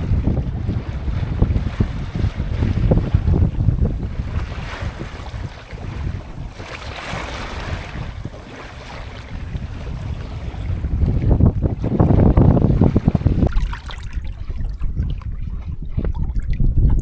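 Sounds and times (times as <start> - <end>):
water washing along hull: 0.0 - 17.0
wind buffeting microphone: 0.0 - 17.0.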